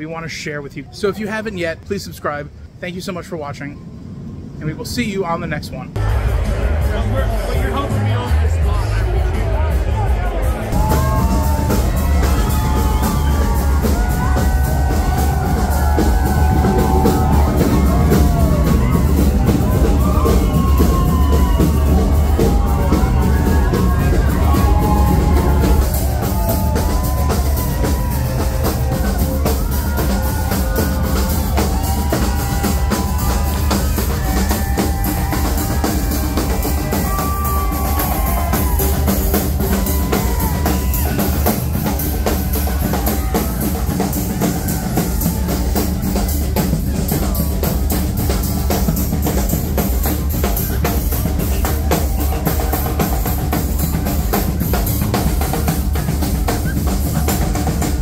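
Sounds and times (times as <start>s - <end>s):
drum kit and snare drums: 8.6s - 58.0s.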